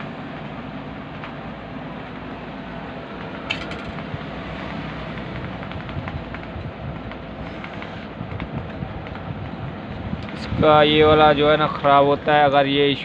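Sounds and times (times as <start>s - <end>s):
shop noise: 0.0s - 13.0s
street traffic: 0.0s - 13.0s.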